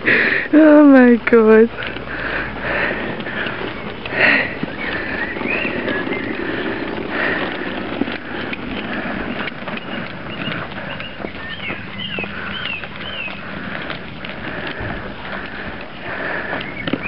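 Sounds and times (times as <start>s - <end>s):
board wheels rolling over path: 0.0s - 17.0s
dogs' quick footfalls: 1.8s - 17.0s.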